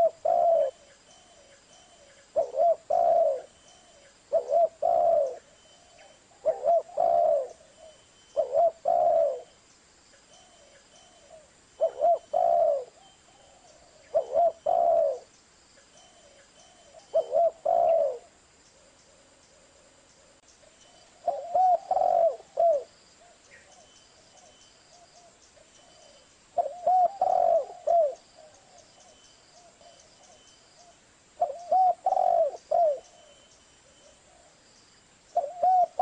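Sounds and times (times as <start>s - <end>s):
dove cooing: 0.0s - 9.6s, 10.4s - 15.3s, 16.1s - 20.4s, 21.2s - 34.6s, 35.4s - 36.0s.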